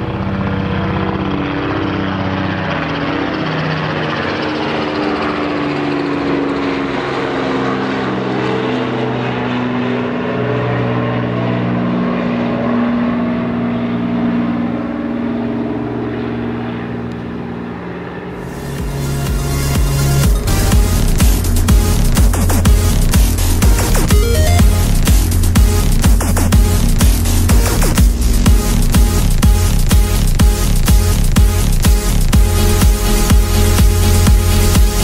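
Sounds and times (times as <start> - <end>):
helicopter flying past: 0.0 - 35.0.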